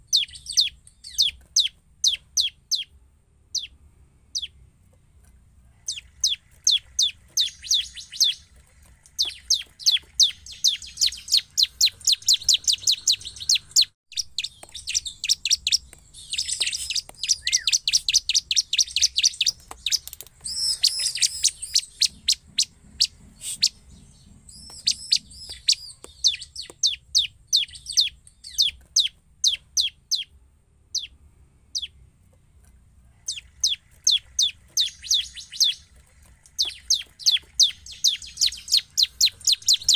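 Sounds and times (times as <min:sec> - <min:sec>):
bird song with sharp chips: 0:00.0 - 0:39.9.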